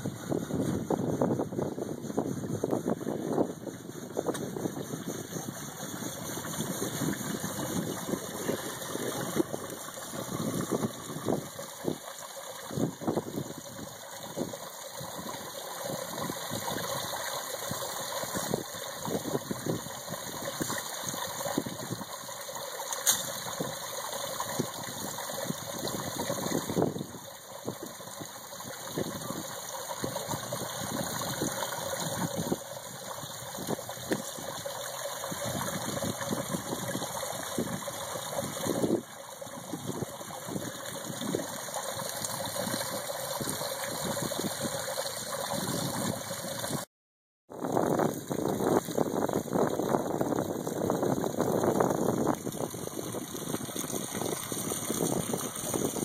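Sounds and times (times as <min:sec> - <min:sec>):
fountain water splashing: 0:02.6 - 0:46.9, 0:47.6 - 0:56.0.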